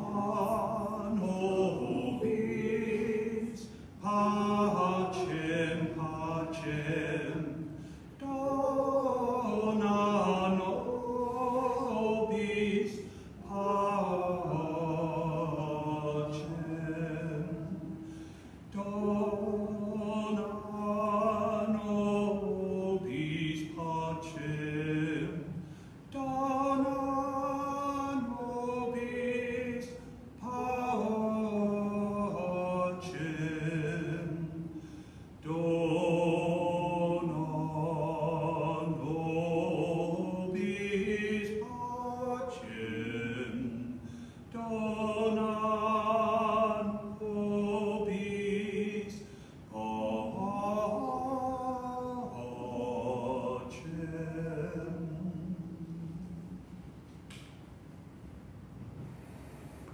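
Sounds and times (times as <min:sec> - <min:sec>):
man singing a hymn: 0:00.0 - 0:18.1, 0:18.7 - 0:56.4.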